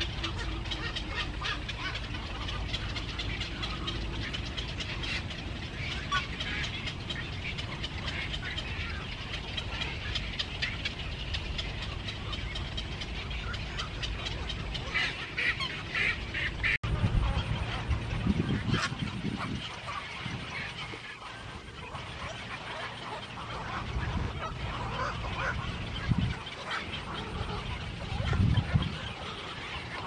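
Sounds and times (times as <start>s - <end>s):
birds calling and chattering: 0.0s - 30.0s
low background noise: 0.0s - 30.0s.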